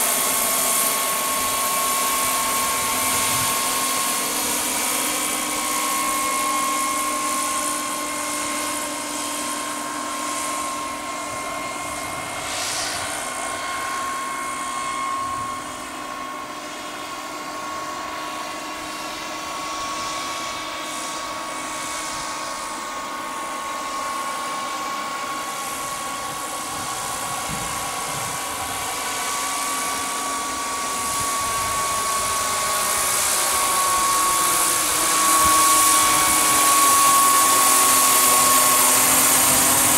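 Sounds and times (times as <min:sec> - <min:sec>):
model helicopter turbine whine: 0:00.0 - 0:39.9.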